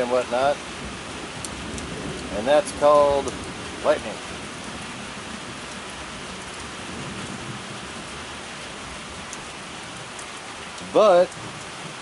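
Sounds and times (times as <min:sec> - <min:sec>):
rain splashing on surfaces: 0:00.0 - 0:12.0.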